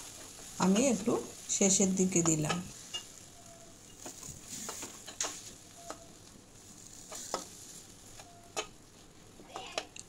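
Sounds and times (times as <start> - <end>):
spice paste sizzling in oil: 0.0 - 10.0.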